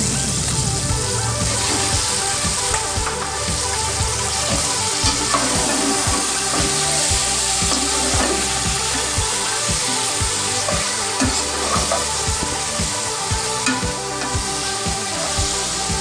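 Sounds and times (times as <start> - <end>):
chicken sizzling in hot oil: 0.0 - 16.0
music with steady beat: 0.0 - 16.0.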